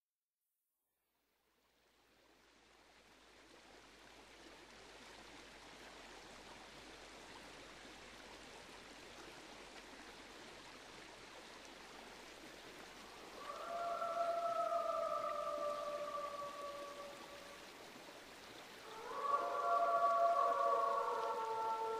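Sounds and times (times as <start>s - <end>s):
stream water rushing: 2.7s - 21.9s.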